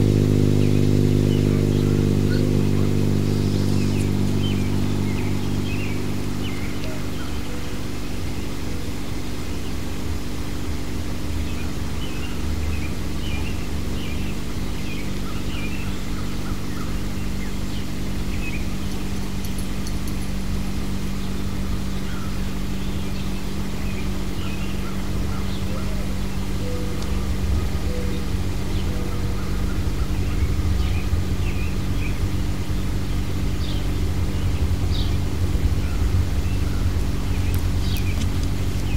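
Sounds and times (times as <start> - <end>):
low machine hum: 0.0 - 38.9
small birds chirping: 0.0 - 38.9.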